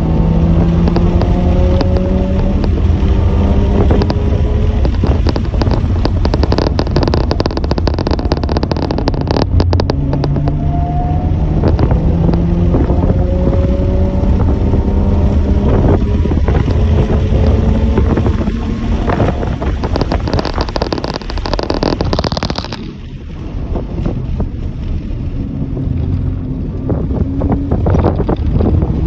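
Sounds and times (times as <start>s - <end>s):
crackling clicks: 0.0s - 29.0s
vehicle engines running: 0.0s - 29.0s
wind rumble on microphone: 0.0s - 29.0s.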